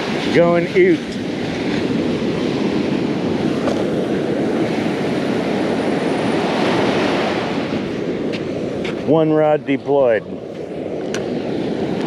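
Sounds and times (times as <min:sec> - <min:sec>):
ocean surf on beach: 0:00.0 - 0:12.0
wind on microphone: 0:00.0 - 0:12.0.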